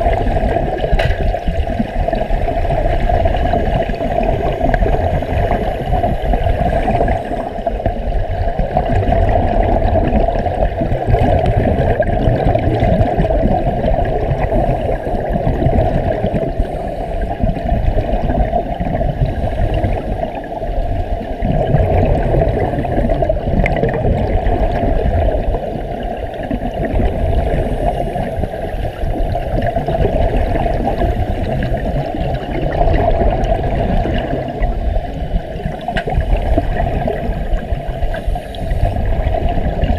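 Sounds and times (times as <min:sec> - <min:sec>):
underwater rushing and gurgling: 0:00.0 - 0:39.9.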